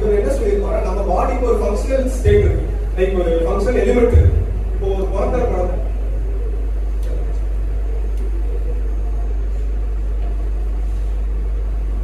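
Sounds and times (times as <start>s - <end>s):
public address system hum: 0.0s - 12.0s.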